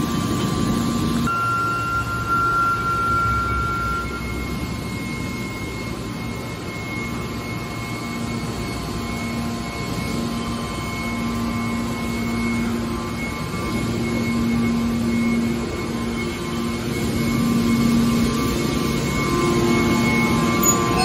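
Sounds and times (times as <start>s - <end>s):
hydraulic motor drone: 0.0s - 21.0s
thin high whine: 0.0s - 21.0s.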